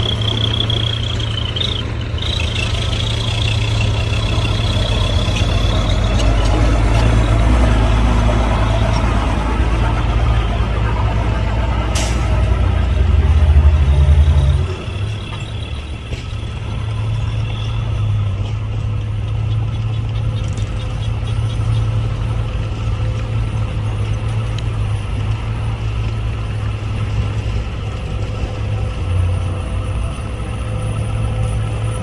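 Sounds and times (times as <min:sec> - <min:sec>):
heavy machinery diesel engine: 0:00.0 - 0:32.0.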